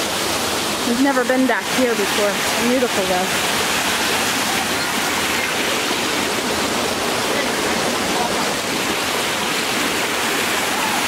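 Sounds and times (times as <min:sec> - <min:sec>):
waterfall rushing and splashing: 0:00.0 - 0:11.0.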